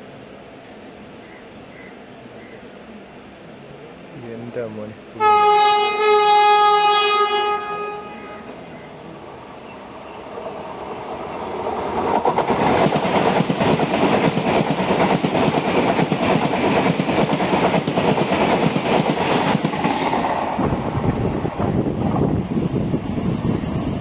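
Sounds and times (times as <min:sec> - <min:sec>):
train passing with loud rush: 0:00.0 - 0:24.0.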